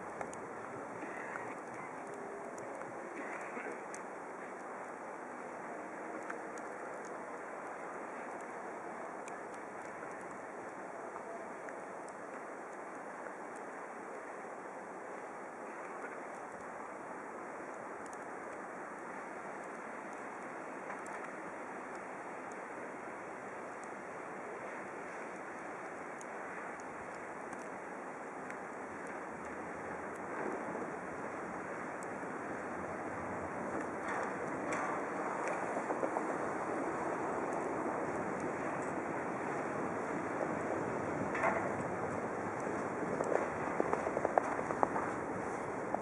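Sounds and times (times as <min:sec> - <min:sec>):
faint ticks: 0:00.0 - 0:46.0
wind: 0:00.0 - 0:46.0
cars driving on snowy road: 0:00.1 - 0:46.0.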